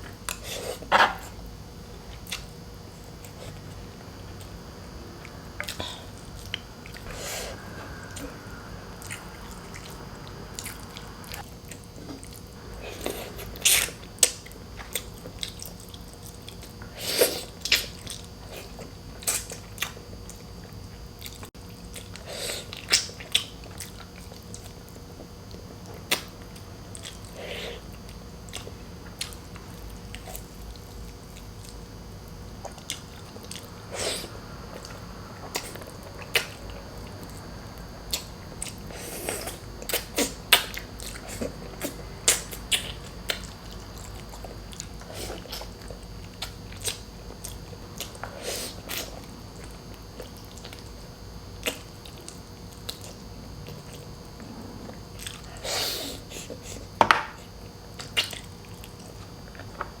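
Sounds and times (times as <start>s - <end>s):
person chewing with wet smacks: 0.0s - 4.6s, 5.2s - 60.0s
faint steady hum: 0.0s - 60.0s.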